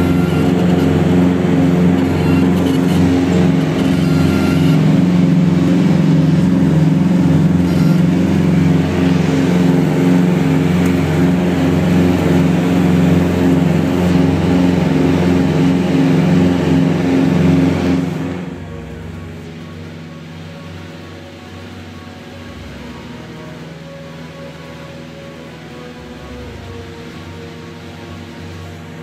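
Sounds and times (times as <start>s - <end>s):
propeller aircraft engines droning: 0.0s - 29.0s.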